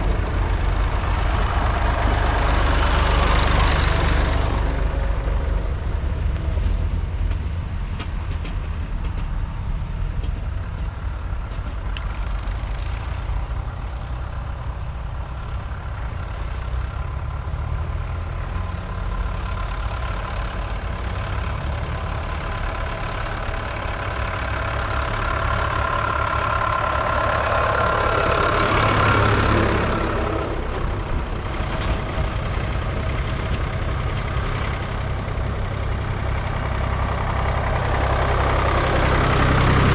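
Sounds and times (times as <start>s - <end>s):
tractor engines running: 0.0s - 39.9s
tractor passing by: 0.0s - 39.9s.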